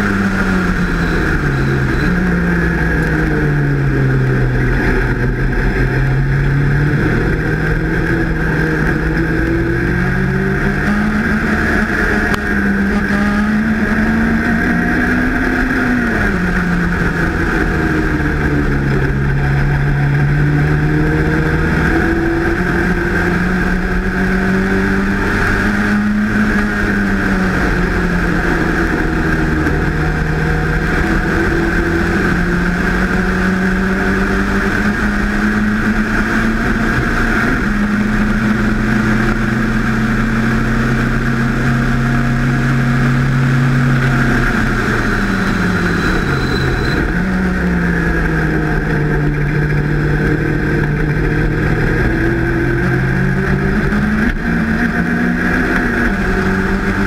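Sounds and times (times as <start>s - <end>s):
racing car engine at high revs: 0.0s - 57.0s.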